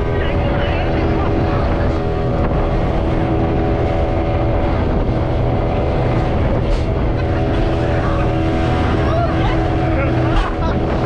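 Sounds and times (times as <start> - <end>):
motorboat engine droning: 0.0 - 11.0
rushing wind and water: 0.0 - 11.0.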